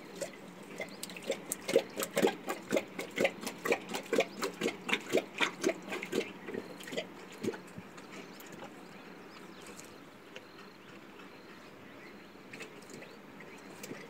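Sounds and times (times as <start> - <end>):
lion lapping water: 0.0 - 14.0.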